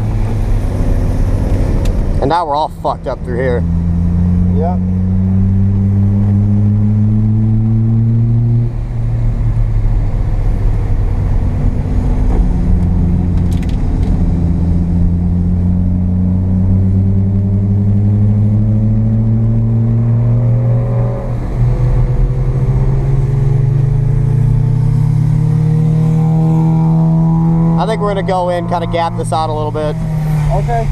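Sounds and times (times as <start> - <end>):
rotary engine revving: 0.0 - 8.8, 9.8 - 30.9.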